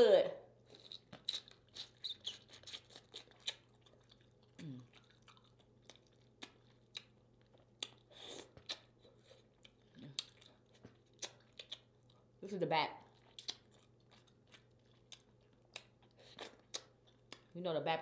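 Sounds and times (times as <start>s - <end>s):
close-up chewing: 0.6s - 12.3s, 13.0s - 17.6s.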